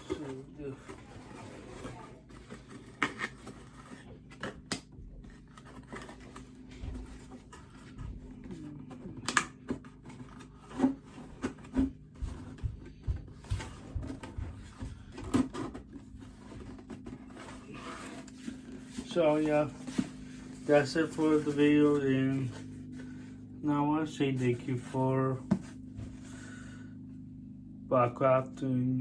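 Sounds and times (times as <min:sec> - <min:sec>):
clothing and packaging rustling: 0:00.0 - 0:26.4
low steady hum: 0:00.0 - 0:29.0.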